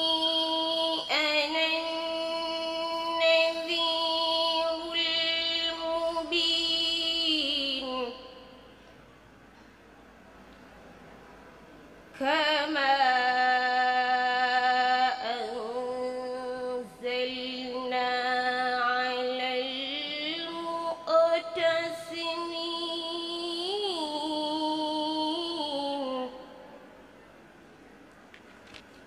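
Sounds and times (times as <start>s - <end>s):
girl reciting melodically: 0.0s - 8.8s, 12.1s - 26.8s.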